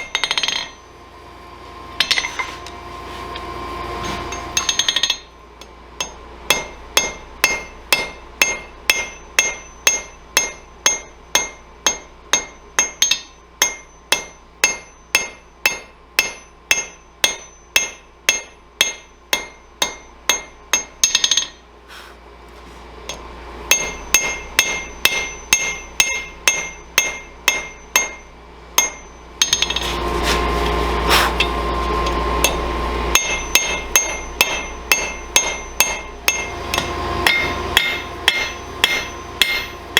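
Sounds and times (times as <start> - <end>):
hammer ringing on anvil: 0.0 - 0.8, 2.0 - 2.5, 4.3 - 21.6, 23.1 - 29.9, 31.3 - 39.9.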